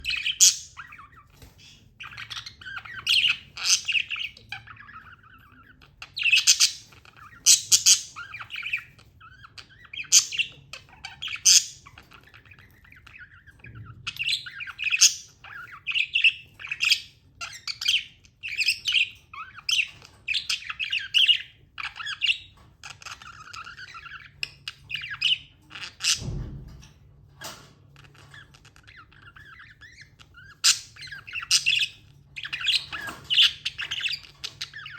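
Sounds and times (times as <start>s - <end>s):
budgerigar chirping: 0.0s - 26.3s, 28.8s - 34.9s.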